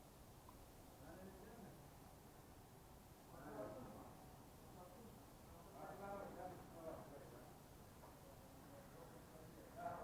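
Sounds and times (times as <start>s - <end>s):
faint distant voices: 1.0s - 2.5s, 3.2s - 10.0s.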